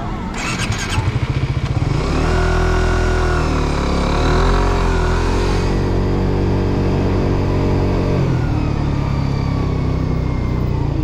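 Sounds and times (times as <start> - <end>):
motorcycle engine pulling away: 0.3 - 11.0.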